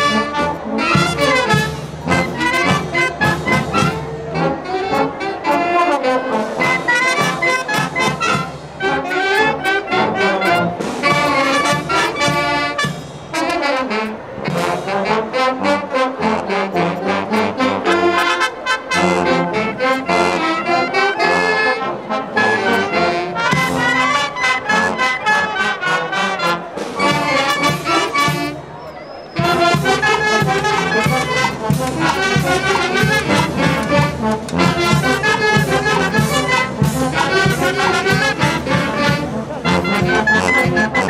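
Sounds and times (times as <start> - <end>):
wind band playing: 0.0 - 41.0.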